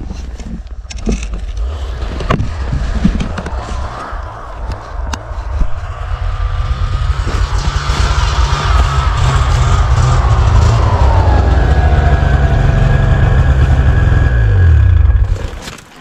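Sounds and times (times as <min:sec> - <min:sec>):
wind buffeting microphone: 0:01.8 - 0:15.3.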